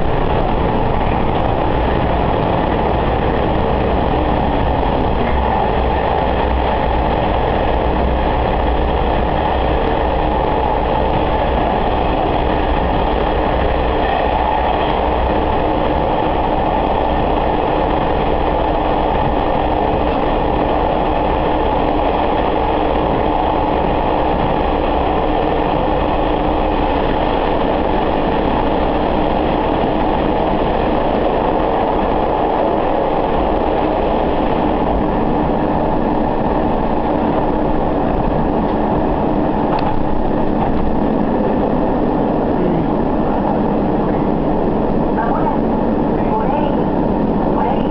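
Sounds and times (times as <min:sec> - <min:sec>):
diesel engine drone: 0:00.0 - 0:47.9
rail running noise: 0:00.0 - 0:47.9.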